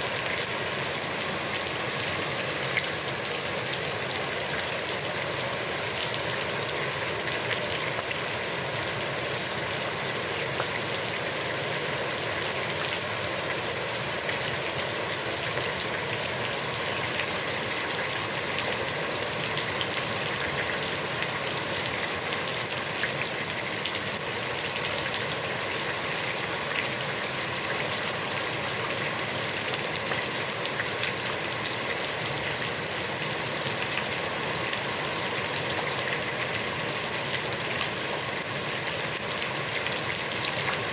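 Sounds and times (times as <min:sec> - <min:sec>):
heavy rain falling on a pond: 0:00.0 - 0:40.9.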